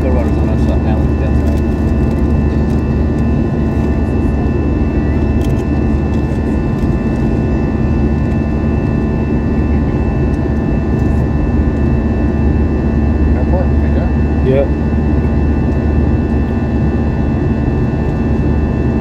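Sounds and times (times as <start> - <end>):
jet engine drone in cabin: 0.0 - 19.0.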